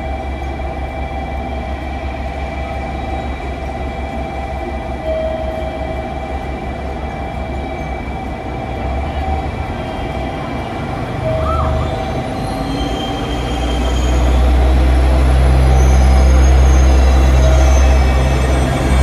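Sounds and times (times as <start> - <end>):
train deep rumble: 0.0 - 19.0.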